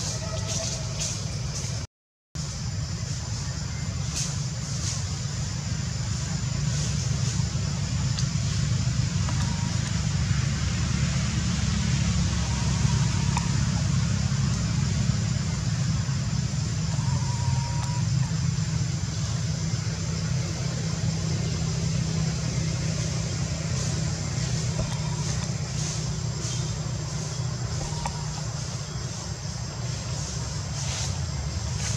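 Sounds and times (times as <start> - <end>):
low outdoor rumble: 0.0 - 31.9.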